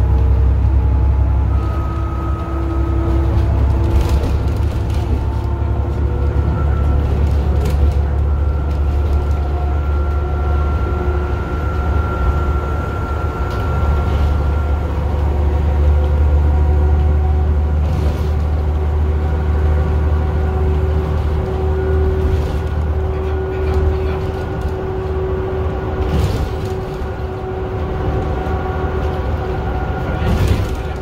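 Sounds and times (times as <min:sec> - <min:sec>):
bus diesel engine rumble: 0:00.0 - 0:31.0.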